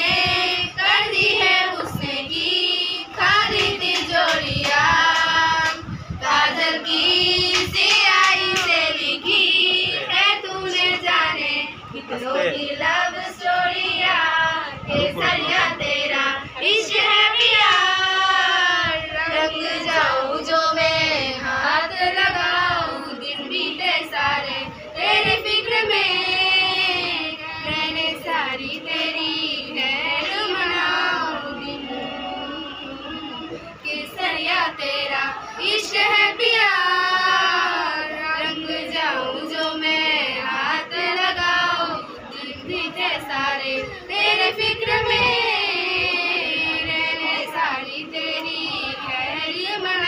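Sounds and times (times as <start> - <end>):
girls singing together: 0.0 - 50.0.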